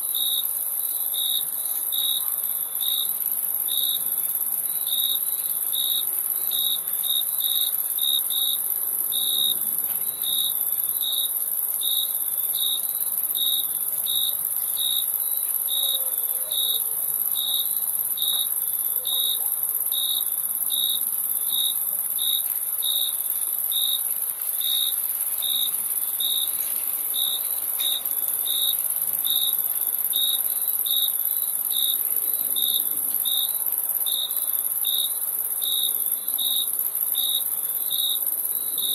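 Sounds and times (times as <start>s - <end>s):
cricket chirping: 0.0s - 38.9s
high-pitched insect trill: 0.0s - 38.9s.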